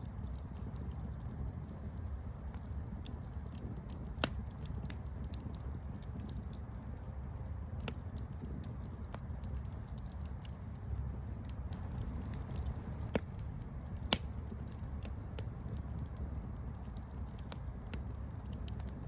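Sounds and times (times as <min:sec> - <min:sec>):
campfire rumbling: 0:00.0 - 0:19.0
fire crackles and pops: 0:00.0 - 0:19.0.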